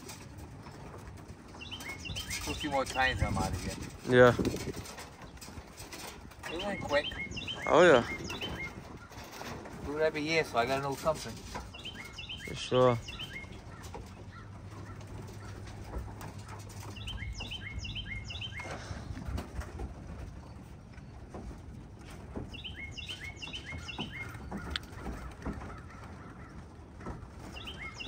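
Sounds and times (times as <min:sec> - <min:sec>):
songbird chirping: 0:00.1 - 0:03.8, 0:04.8 - 0:19.4, 0:20.0 - 0:28.0.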